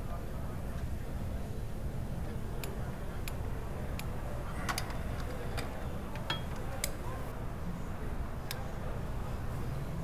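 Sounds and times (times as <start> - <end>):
low workshop rumble: 0.0 - 10.0.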